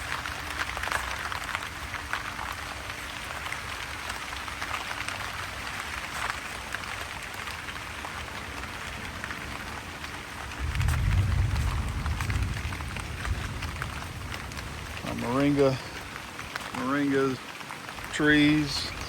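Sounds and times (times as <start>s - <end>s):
rain drops ticking: 0.0s - 19.0s.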